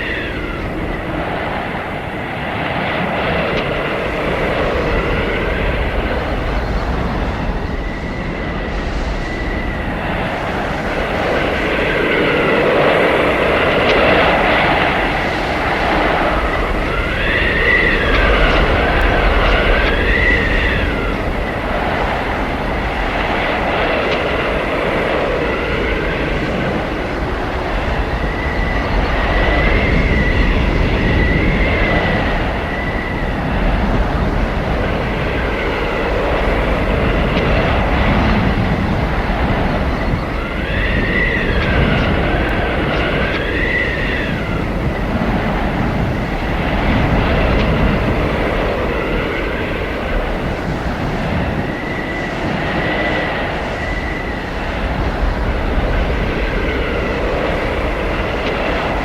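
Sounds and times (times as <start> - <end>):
high wind whistling: 0.0 - 59.0
howling wind: 0.0 - 59.0.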